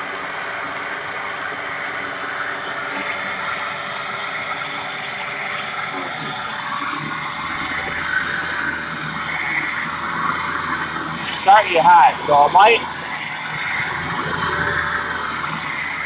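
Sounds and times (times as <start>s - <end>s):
low hum: 0.0s - 16.0s
vacuum cleaner running: 0.0s - 16.0s.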